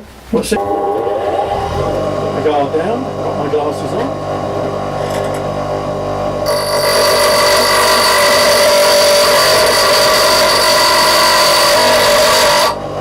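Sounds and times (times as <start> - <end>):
motor hum: 0.5 - 13.0
bench grinder grinding metal: 0.6 - 13.0.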